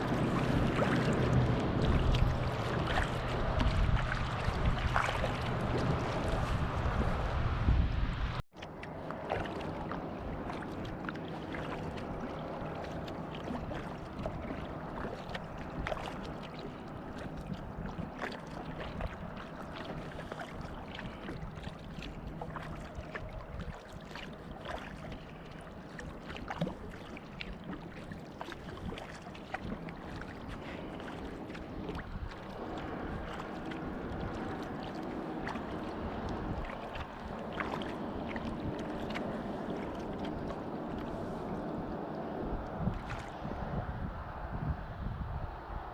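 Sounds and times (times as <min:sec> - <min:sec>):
paddles splashing water: 0:00.0 - 0:44.5
steady wash of water: 0:00.0 - 0:45.9.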